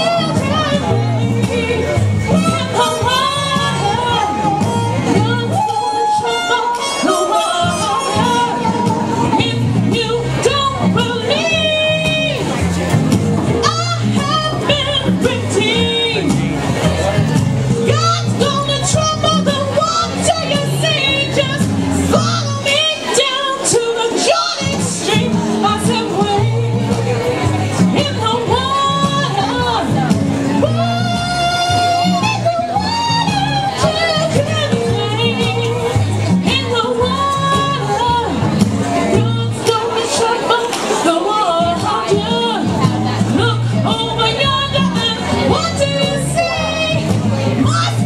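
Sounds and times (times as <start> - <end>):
instrumental backing music: 0.0 - 48.0
woman singing into microphone: 0.0 - 48.0.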